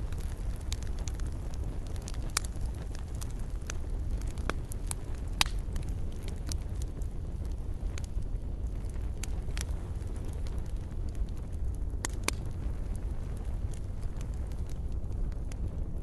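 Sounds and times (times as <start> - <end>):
fire crackles and pops: 0.0 - 16.0
wood fire rumble: 0.0 - 16.0.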